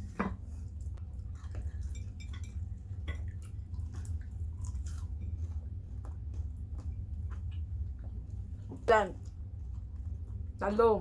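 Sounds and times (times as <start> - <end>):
chewing and crunching food: 0.0 - 11.0
steady low hum: 0.0 - 11.0.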